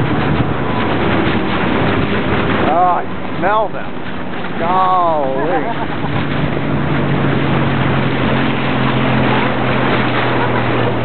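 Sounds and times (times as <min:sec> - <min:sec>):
outboard motor running: 0:00.0 - 0:11.0
water rushing: 0:00.0 - 0:11.0
wind noise: 0:00.0 - 0:11.0.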